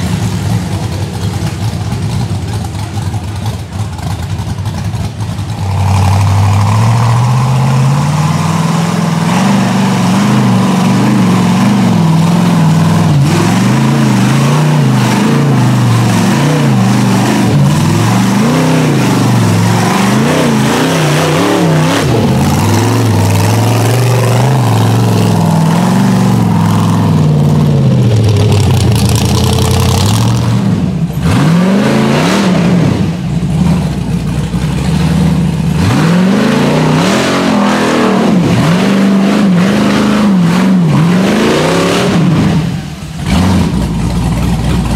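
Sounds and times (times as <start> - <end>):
engines revving: 0.0 - 44.9.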